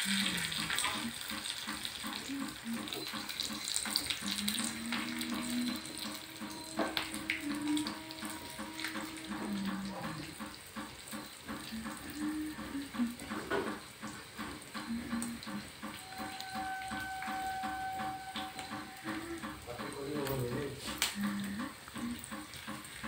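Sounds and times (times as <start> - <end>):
oil sizzling in a pan: 0.0 - 23.0
soft background music with beat: 1.3 - 22.9.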